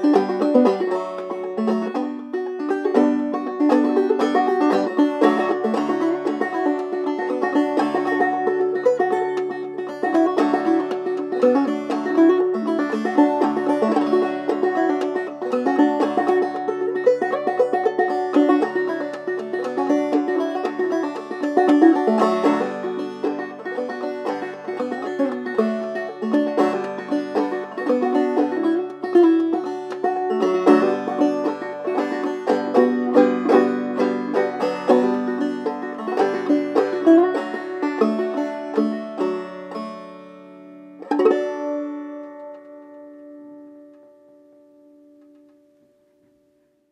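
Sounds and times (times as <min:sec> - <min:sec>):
banjo picking: 0:00.0 - 0:46.6.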